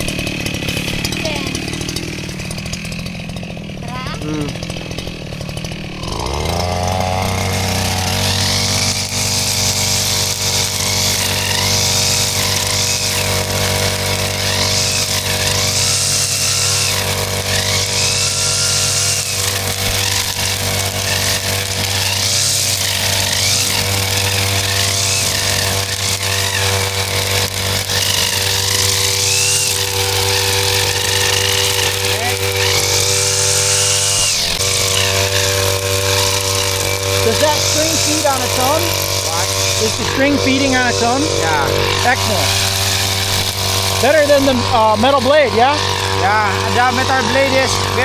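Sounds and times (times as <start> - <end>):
petrol brush cutter running: 0.0 - 48.0.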